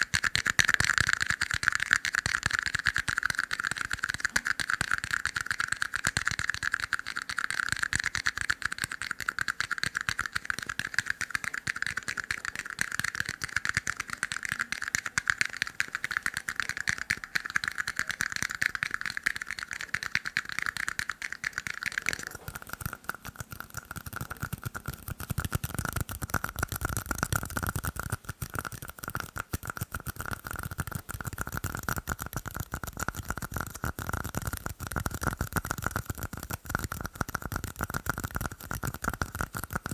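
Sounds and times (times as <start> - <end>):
fast tapping on plastic cups: 0.0 - 39.9.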